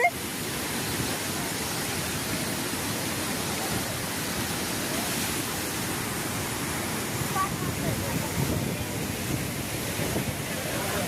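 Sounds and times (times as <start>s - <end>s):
rushing falling water: 0.0s - 11.0s.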